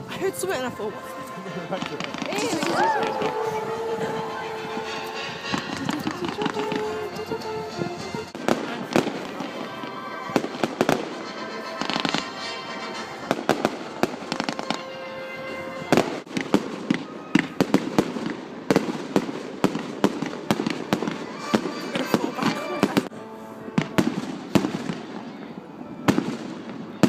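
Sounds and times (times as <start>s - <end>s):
fireworks bangs and crackles: 1.5s - 23.1s, 23.8s - 27.0s.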